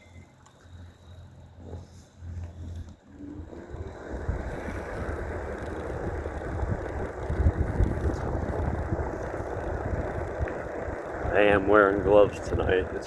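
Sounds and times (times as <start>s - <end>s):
bike tyre rumble: 0.0s - 13.0s
wind rushing over microphone: 2.3s - 13.0s.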